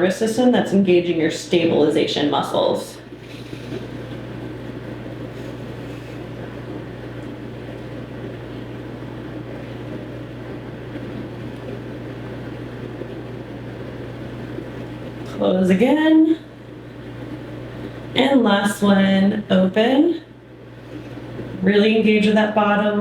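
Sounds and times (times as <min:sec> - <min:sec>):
low hum: 0:00.0 - 0:23.0
room background hiss: 0:00.0 - 0:23.0.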